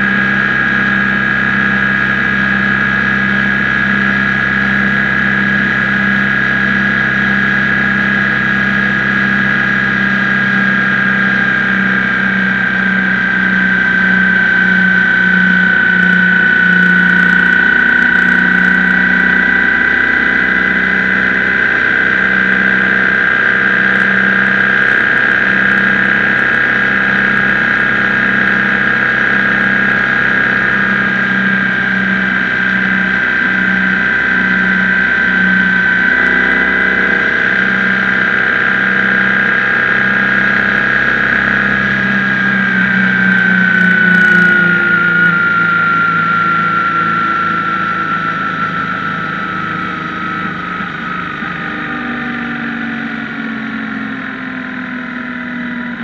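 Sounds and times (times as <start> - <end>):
high whine: 0.0 - 56.0
motorcycle engine running: 0.0 - 56.0.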